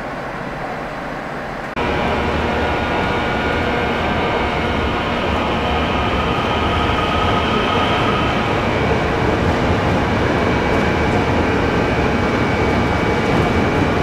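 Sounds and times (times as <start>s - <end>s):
train rumble: 0.0s - 14.0s
high whining tones: 1.8s - 14.0s.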